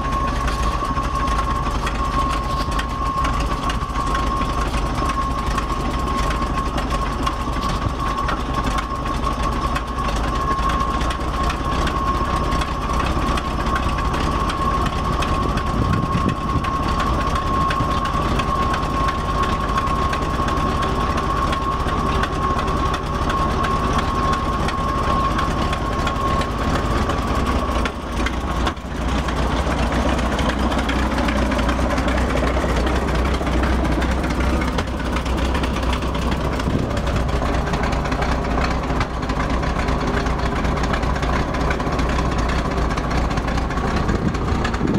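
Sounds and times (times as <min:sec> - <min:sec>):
hydraulic hoist whine: 0:00.0 - 0:44.9
truck engine running: 0:00.0 - 0:44.9.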